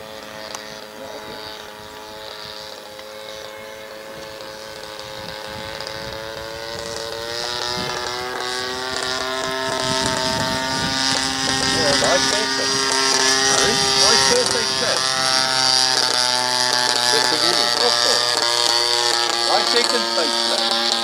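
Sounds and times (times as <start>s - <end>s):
model plane engine droning: 0.0s - 21.0s.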